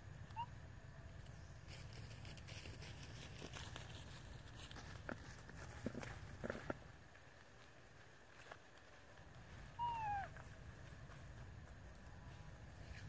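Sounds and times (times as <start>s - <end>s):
dry leaves rustling: 1.2s - 13.0s.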